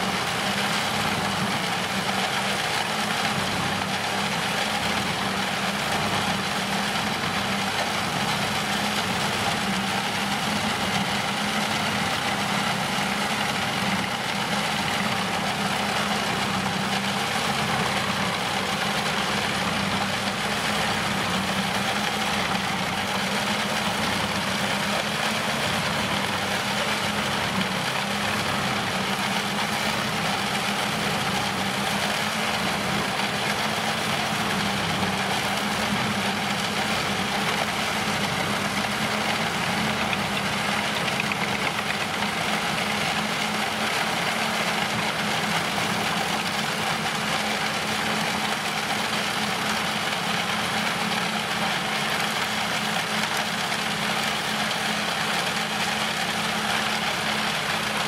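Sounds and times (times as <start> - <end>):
wood chipper running: 0.0 - 58.0.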